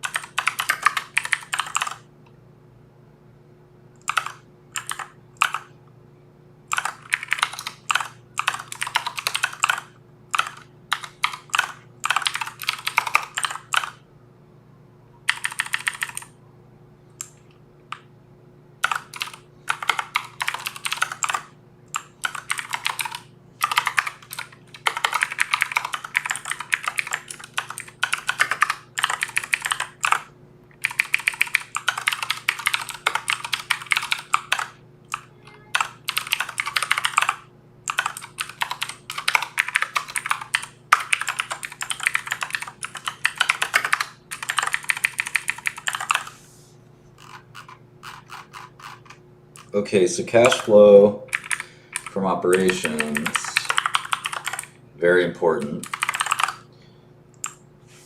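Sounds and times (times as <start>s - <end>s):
computer keyboard typing: 0.0s - 2.0s, 4.0s - 5.7s, 6.7s - 14.0s, 15.3s - 16.3s, 18.8s - 46.4s, 47.2s - 49.7s, 50.4s - 50.7s, 51.3s - 54.8s, 55.6s - 56.7s, 57.4s - 57.6s
faint low hum: 0.0s - 58.0s.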